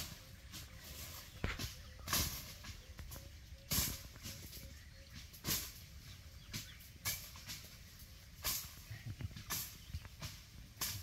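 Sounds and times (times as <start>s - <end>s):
short dry rustles: 0.0s - 11.0s.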